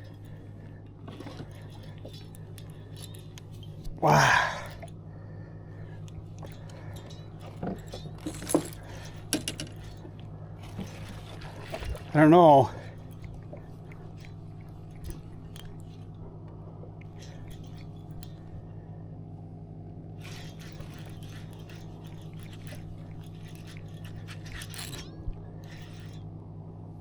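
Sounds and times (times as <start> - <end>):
handling clicks and rustles: 0.0 - 5.0, 5.8 - 18.9, 19.9 - 26.4
low mechanical hum: 0.0 - 27.0.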